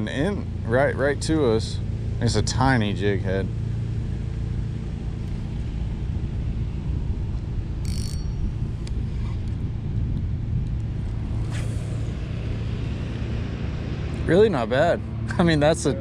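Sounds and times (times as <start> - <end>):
diesel truck engine rumbling: 0.0 - 16.0.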